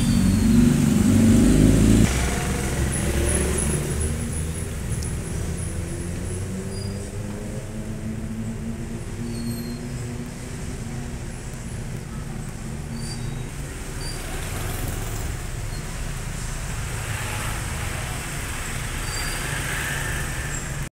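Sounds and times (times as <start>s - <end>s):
passing engine hum: 0.0s - 20.9s
traffic rumble: 0.0s - 20.9s.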